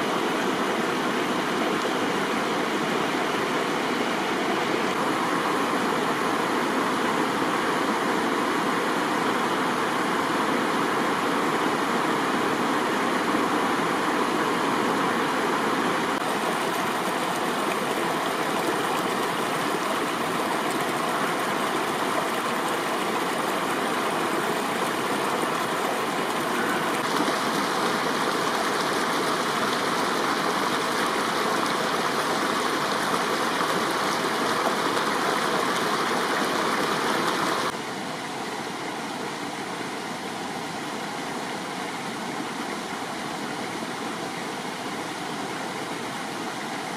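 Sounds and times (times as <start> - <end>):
stream flowing over rocks: 0.0 - 46.9.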